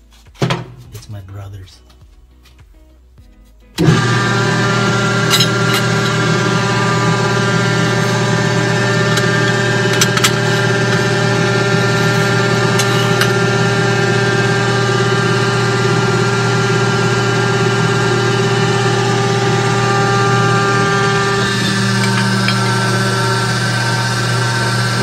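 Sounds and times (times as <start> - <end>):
electric motor humming: 3.8 - 25.0.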